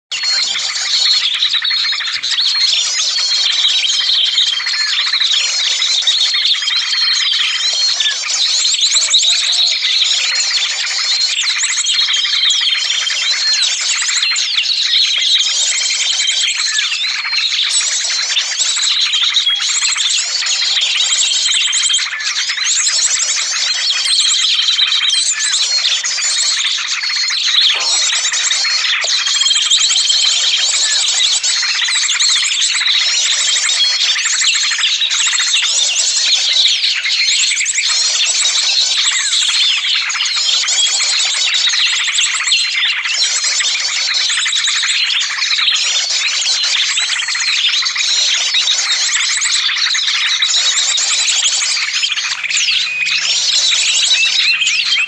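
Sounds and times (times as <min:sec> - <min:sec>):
flock of songbirds chattering: 0:00.0 - 0:55.0.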